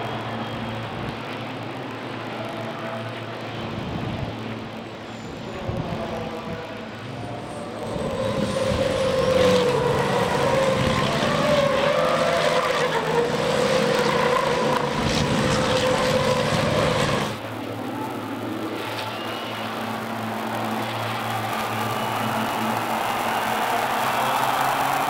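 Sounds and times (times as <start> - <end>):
racing truck diesel engines: 0.0 - 25.0.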